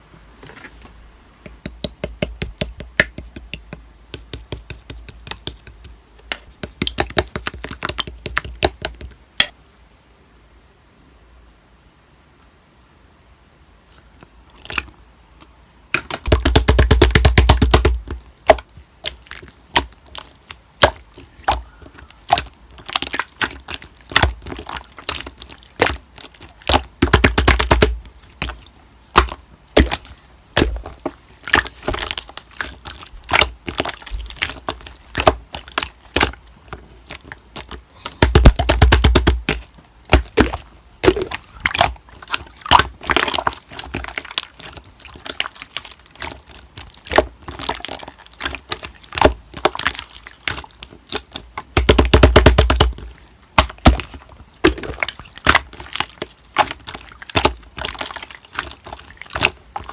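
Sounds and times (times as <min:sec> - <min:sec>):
slime popping and crackling: 0:01.6 - 0:09.5, 0:16.0 - 0:59.9.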